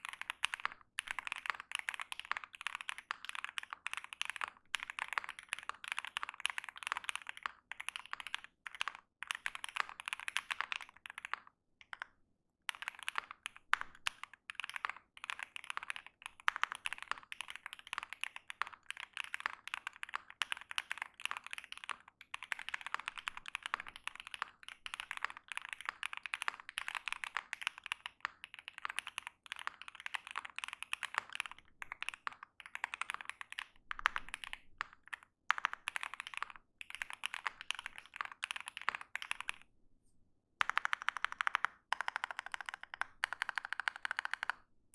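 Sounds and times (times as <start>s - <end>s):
mechanical keyboard typing: 0.0s - 12.1s, 12.7s - 39.6s, 40.6s - 44.6s.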